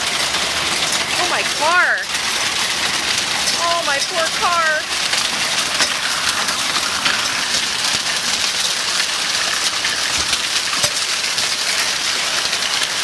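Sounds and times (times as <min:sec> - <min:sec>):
hail and rain clattering: 0:00.0 - 0:13.0.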